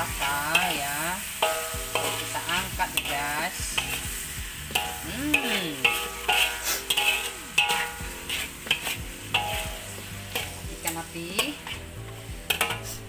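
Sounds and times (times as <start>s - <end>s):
spatula clacking against pan: 0.0s - 4.1s, 4.7s - 11.8s, 12.4s - 13.0s
low frying sizzle: 0.0s - 13.0s
spatula scraping a wok: 0.0s - 13.0s.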